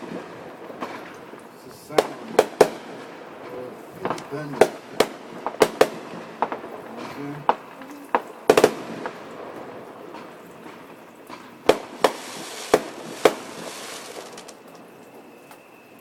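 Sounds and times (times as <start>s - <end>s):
fireworks bangs with echo: 0.0s - 15.8s.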